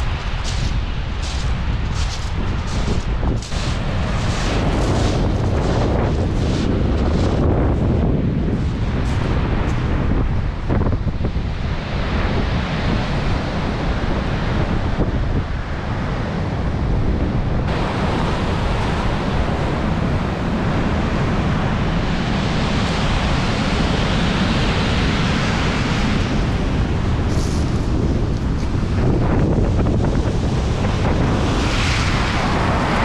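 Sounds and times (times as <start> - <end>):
sea waves breaking: 0.0 - 16.4, 17.6 - 33.0
wind on microphone: 0.0 - 33.0.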